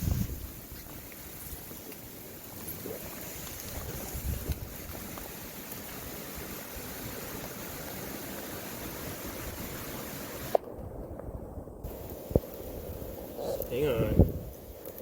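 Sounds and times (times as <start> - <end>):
outdoor noise hiss: 0.0 - 15.0.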